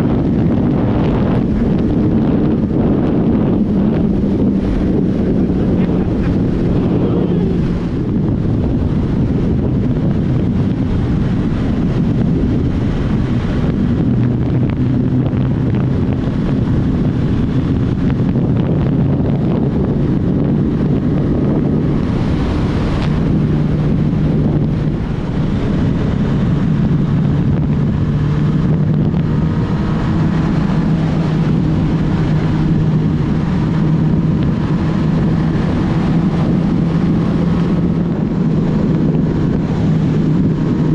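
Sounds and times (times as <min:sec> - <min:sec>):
motorcycle engine drone: 0:00.0 - 0:40.9
wind buffeting microphone: 0:00.0 - 0:40.9.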